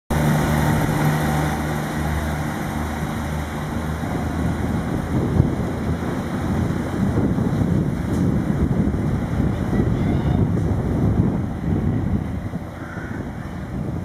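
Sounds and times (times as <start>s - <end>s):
train wheels rumbling on track: 0.1s - 13.7s
diesel engine droning: 0.1s - 14.0s.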